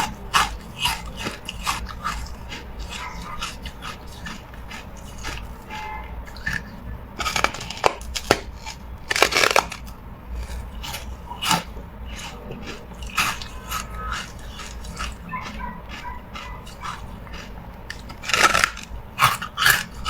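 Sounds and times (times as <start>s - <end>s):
ice crunching in mouth: 0.0s - 20.0s.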